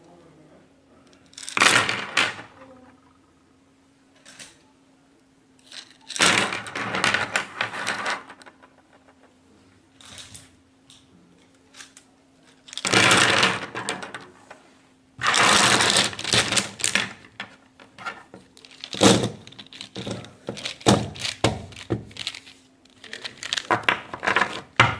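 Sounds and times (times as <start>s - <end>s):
wooden pencils clattering on table: 1.0s - 3.1s, 4.2s - 4.6s, 5.6s - 9.4s, 10.0s - 14.6s, 15.2s - 24.9s.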